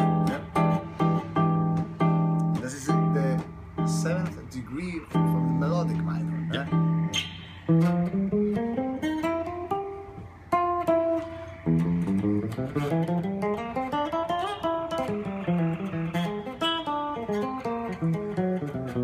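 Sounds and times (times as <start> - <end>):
bass guitar plucked notes: 0.0 - 19.0.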